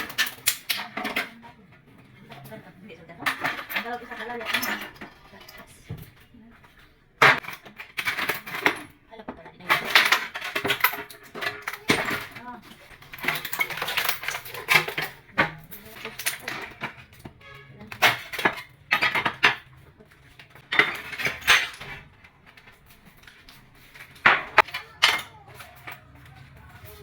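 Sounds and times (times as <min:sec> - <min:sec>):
tools clinking on ceramic tile: 0:00.0 - 0:27.0.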